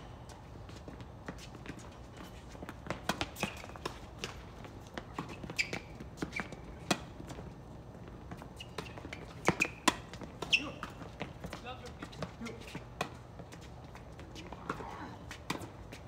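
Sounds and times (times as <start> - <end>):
shoes squeaking on court: 0.2 - 16.0
rackets hitting tennis ball: 0.8 - 16.0
tennis ball bouncing: 0.8 - 16.0.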